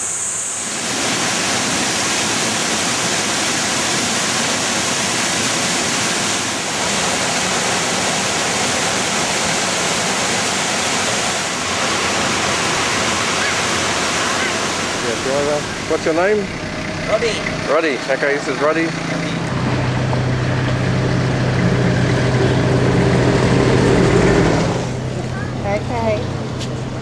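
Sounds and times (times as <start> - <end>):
waterfall rushing: 0.0 - 25.2.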